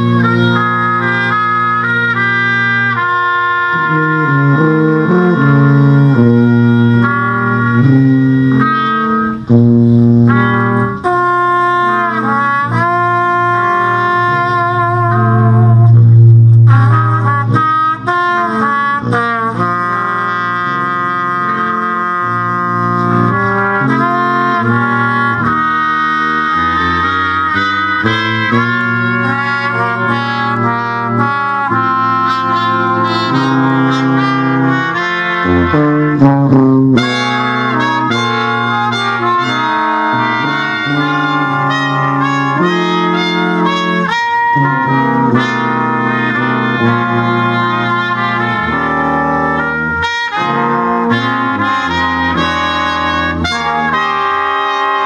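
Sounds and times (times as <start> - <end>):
brass quintet playing: 0.0 - 55.0.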